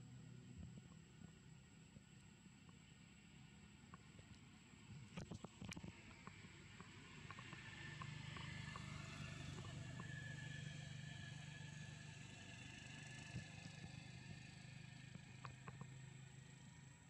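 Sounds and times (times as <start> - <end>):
distant motor engine hum: 0.0 - 17.0.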